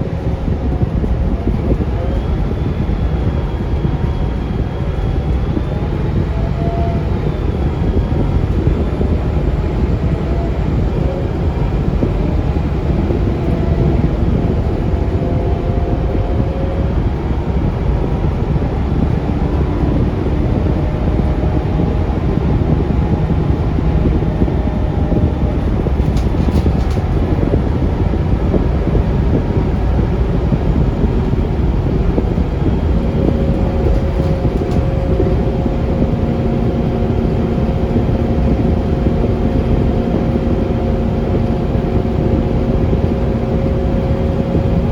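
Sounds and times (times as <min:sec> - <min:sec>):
bus engine and road rumble: 0:00.0 - 0:44.9.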